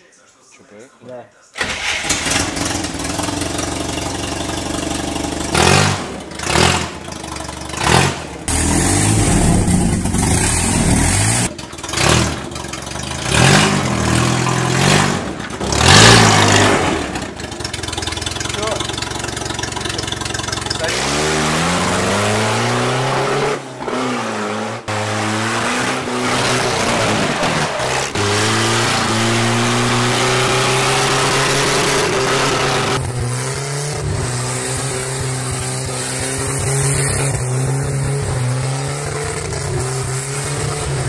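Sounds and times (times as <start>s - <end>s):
car engine revving: 1.6s - 41.0s.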